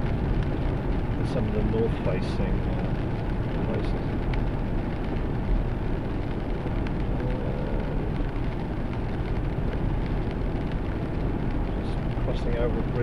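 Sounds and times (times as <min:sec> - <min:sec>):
car road noise rumble: 0:00.0 - 0:13.0.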